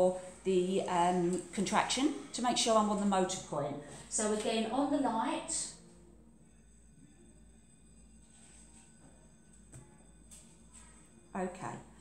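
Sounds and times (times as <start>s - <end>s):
faint high whine: 0.0s - 12.0s
low hum: 0.0s - 12.0s.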